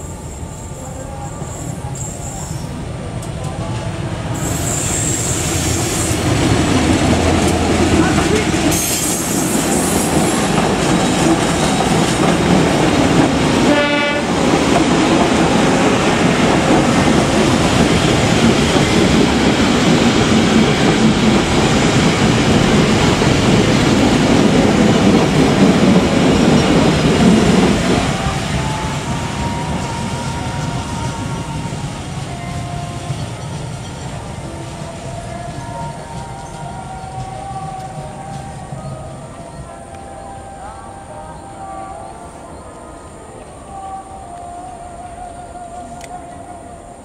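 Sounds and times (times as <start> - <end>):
train wheels running on rails: 0.0 - 40.5.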